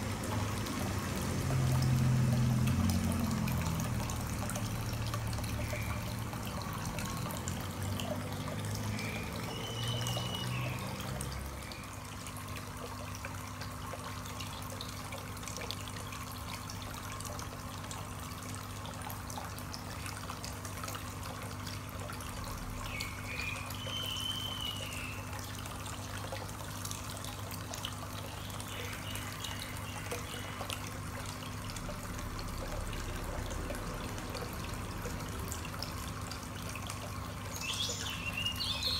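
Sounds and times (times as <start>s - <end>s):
water trickling into pond: 0.0s - 38.9s.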